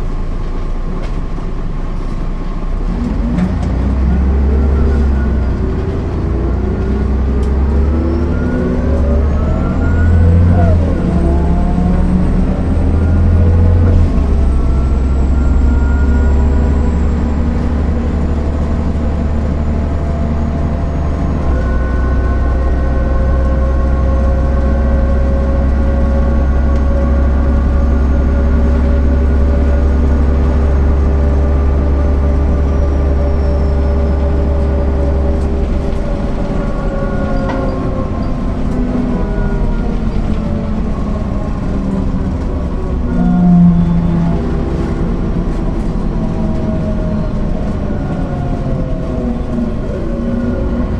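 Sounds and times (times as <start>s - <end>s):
bus diesel engine pulling away: 0.0s - 50.9s.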